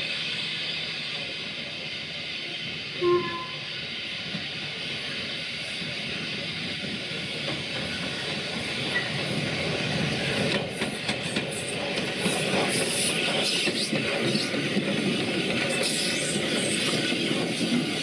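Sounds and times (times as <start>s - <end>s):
steam locomotive passing: 0.0s - 18.0s
train wheels clattering on rails: 0.0s - 18.0s.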